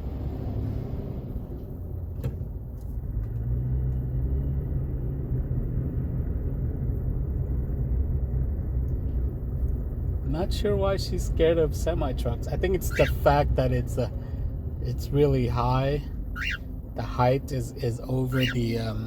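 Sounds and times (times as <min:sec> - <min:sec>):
car road and engine rumble: 0:00.0 - 0:19.0
truck passing: 0:03.1 - 0:19.0.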